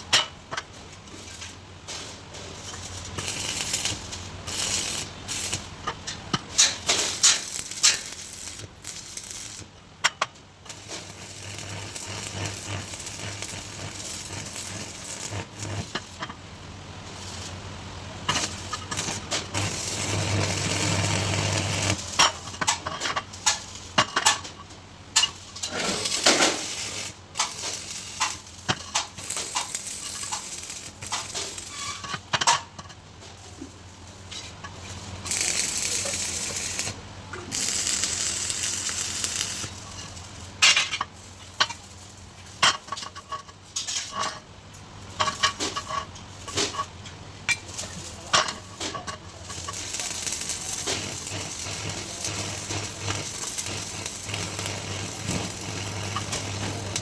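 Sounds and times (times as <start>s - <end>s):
arc welding crackling: 0.0s - 57.0s.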